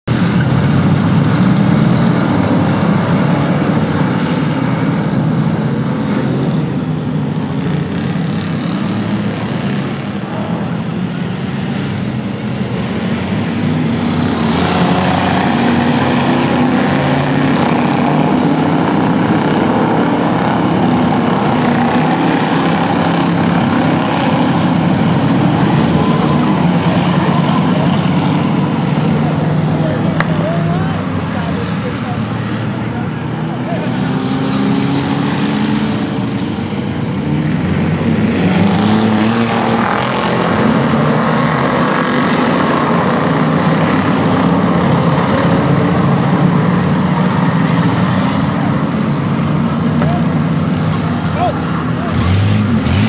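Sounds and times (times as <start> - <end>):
racing car engines: 0.0 - 53.0.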